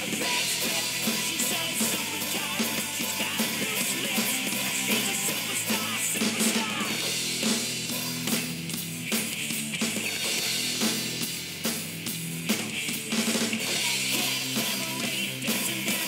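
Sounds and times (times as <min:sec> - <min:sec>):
distorted electric guitar: 0:00.0 - 0:16.0
drum beat with cymbal crashes: 0:00.0 - 0:16.0.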